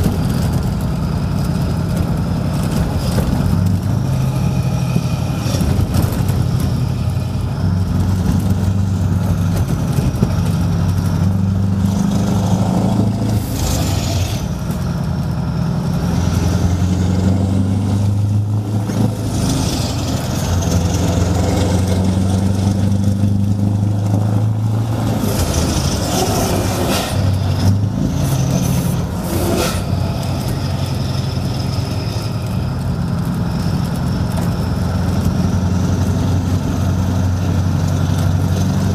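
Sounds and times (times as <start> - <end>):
diesel truck engine: 0.0 - 38.9.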